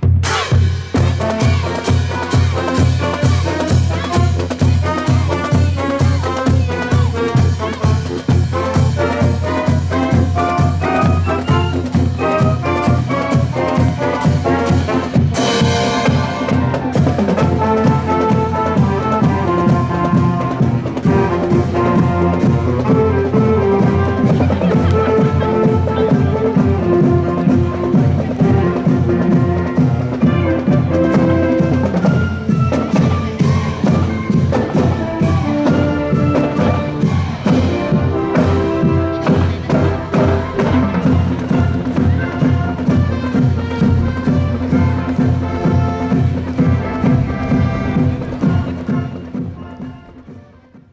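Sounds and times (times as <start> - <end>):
marching band playing: 0.0 - 50.9.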